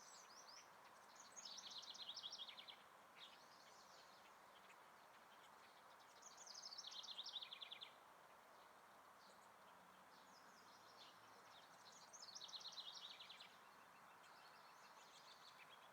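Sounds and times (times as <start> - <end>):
faint background noise: 0.0 - 15.9.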